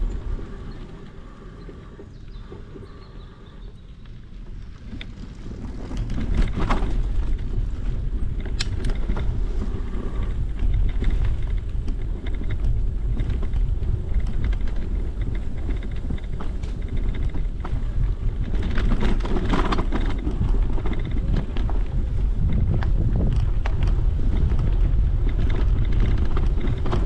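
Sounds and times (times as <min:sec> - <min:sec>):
bicycle clicks and rattles: 0:00.0 - 0:27.0
wind rumbling on microphone: 0:00.0 - 0:27.0.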